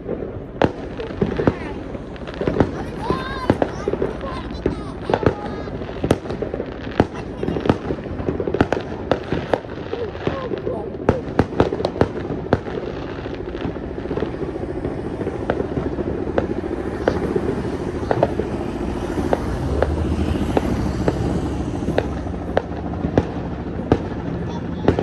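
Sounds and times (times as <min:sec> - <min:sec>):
fireworks popping and banging: 0:00.0 - 0:25.0
steady low drone: 0:00.0 - 0:25.0.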